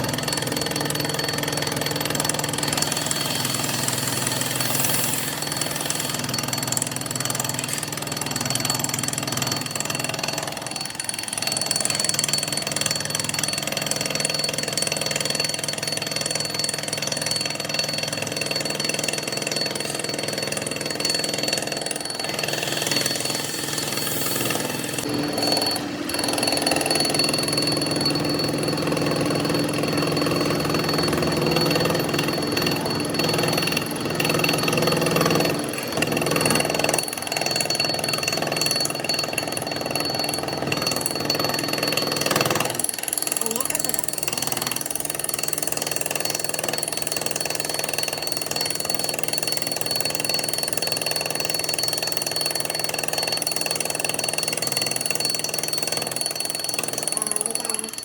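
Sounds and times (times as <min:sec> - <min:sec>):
metalworking machinery drone: 0:00.0 - 0:48.3, 0:49.2 - 0:58.0.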